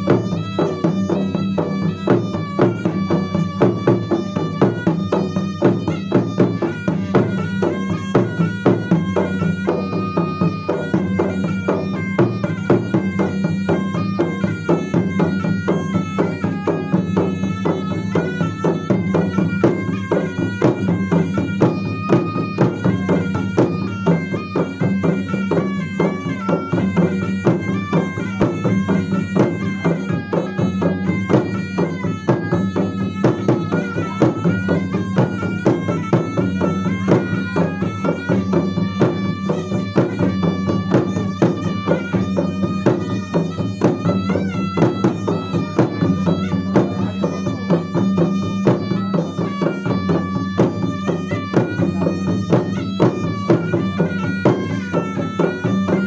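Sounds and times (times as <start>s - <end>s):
rapid drumming: 0.0s - 56.0s
reedy double-reed pipe melody: 0.0s - 56.0s.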